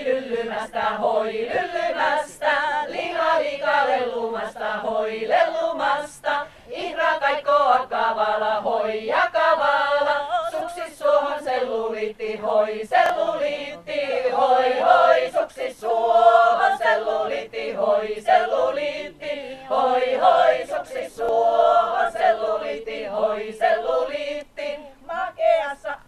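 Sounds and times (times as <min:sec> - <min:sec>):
women's choir singing a cappella: 0:00.0 - 0:26.0.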